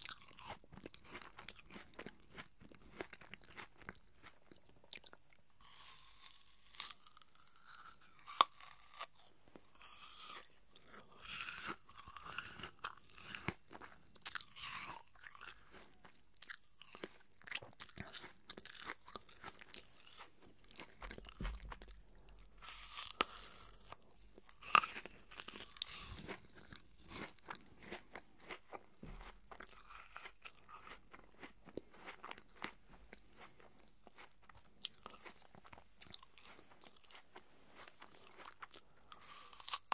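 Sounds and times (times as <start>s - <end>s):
apple chewing crunches: 0.0s - 39.9s.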